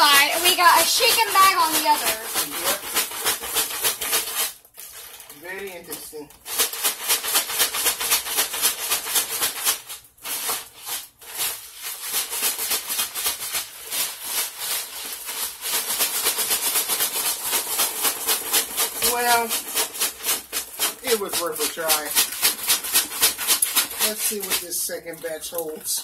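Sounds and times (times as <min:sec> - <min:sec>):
ice rattling in shaken plastic bag: 0:00.0 - 0:26.0.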